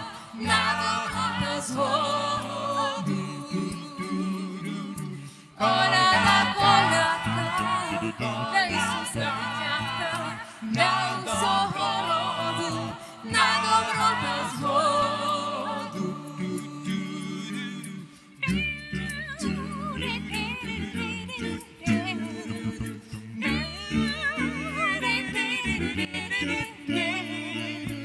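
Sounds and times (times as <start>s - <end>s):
choir singing a cappella: 0.0s - 28.0s.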